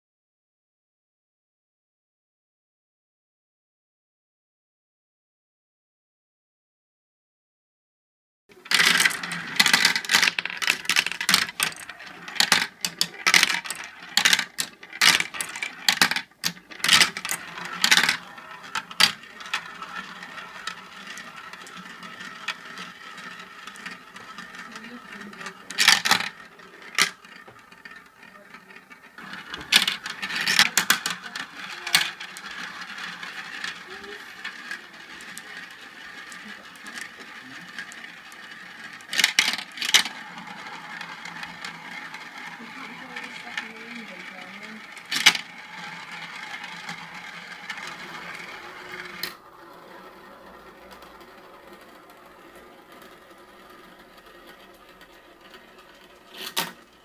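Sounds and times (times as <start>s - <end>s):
marbles rolling and clacking: 8.5s - 57.0s.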